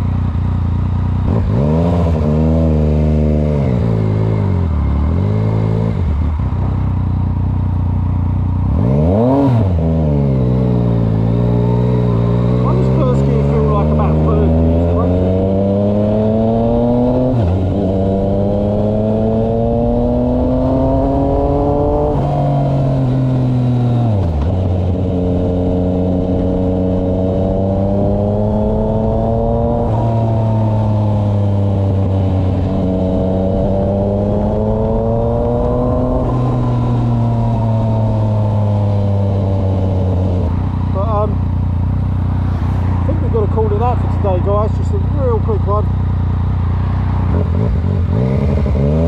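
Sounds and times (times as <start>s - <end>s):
motorcycle engine revving through gears: 0.0s - 49.0s.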